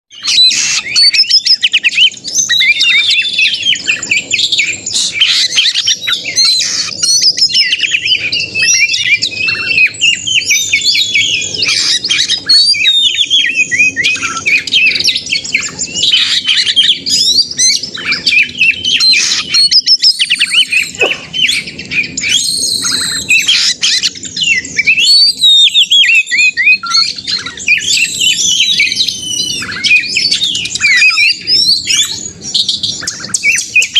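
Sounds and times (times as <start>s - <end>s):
songbird singing rapidly: 0.1s - 33.9s.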